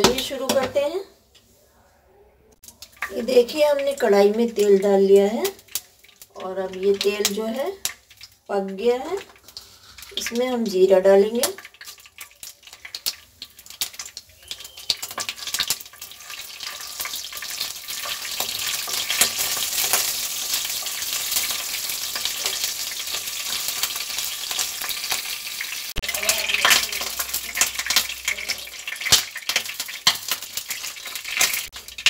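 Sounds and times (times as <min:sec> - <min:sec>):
seeds sizzling in hot oil: 0:02.6 - 0:32.0.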